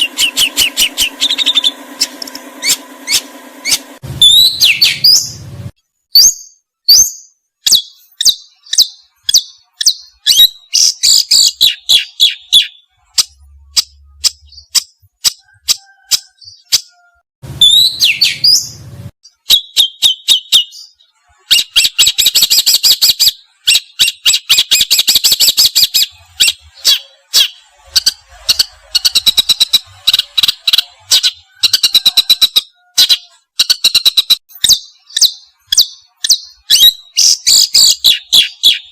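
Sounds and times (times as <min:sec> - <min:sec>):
songbird chirping and trilling: 0:00.0 - 0:05.5, 0:06.1 - 0:38.9.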